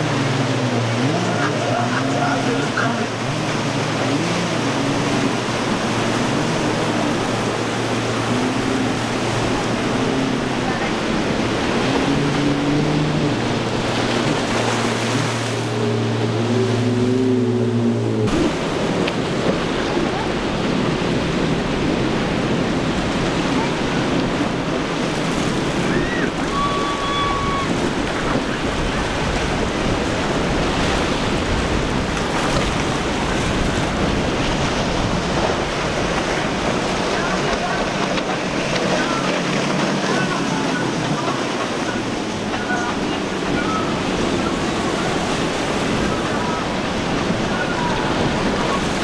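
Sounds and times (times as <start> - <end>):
boat engines running: 0.0 - 49.0
waves breaking: 0.0 - 49.0
wind: 0.0 - 49.0.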